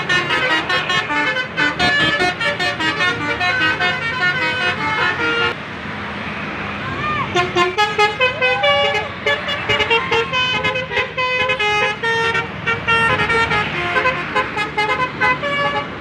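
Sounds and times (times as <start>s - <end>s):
bus musical horn tune: 0.0s - 5.6s, 7.3s - 16.0s
road traffic noise: 0.0s - 16.0s.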